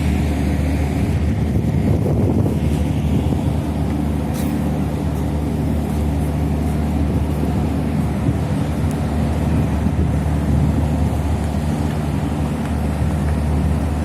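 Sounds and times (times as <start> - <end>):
ship diesel engines droning: 0.0 - 14.0.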